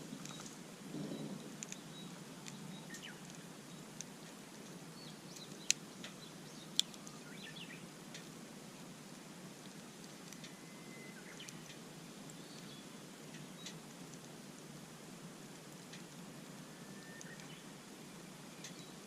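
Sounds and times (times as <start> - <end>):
small birds chirping: 0.0 - 14.7, 15.4 - 19.0
campfire crackling: 0.0 - 19.0.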